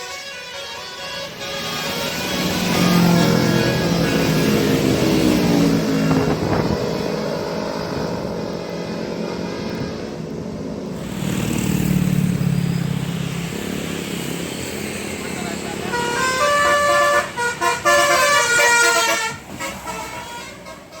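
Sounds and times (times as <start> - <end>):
vehicle engines passing: 1.0 - 21.0.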